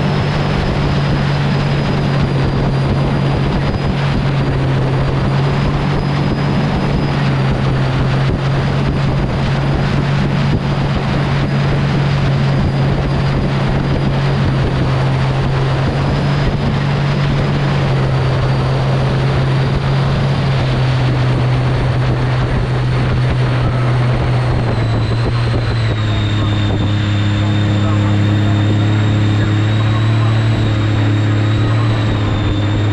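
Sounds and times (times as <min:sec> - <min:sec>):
boat engine droning: 0:00.0 - 0:32.9
high whine of jet drive: 0:00.0 - 0:32.9
rushing water and wind: 0:00.0 - 0:32.9.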